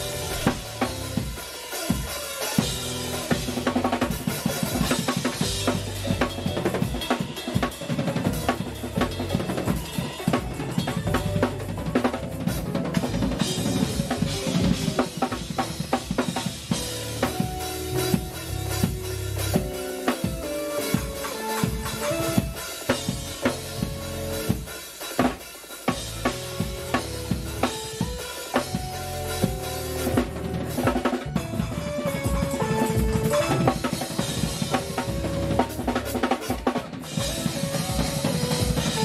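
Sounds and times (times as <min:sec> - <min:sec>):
drum kit played fast: 0:00.0 - 0:39.0.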